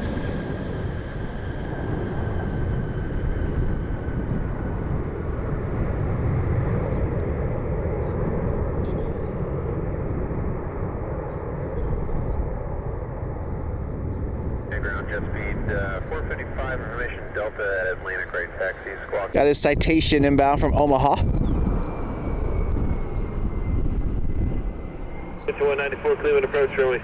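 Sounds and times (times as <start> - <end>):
jet engines roaring with whine: 0.0 - 27.0.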